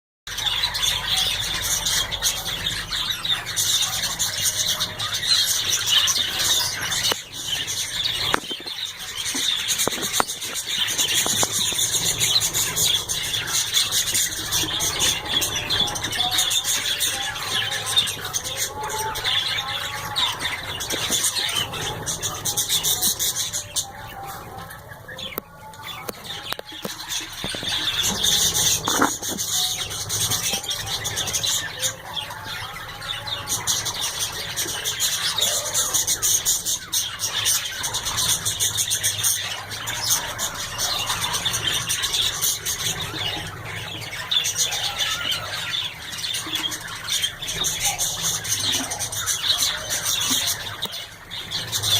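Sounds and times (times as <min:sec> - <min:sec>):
cockatiels squawking: 0:00.3 - 0:51.9.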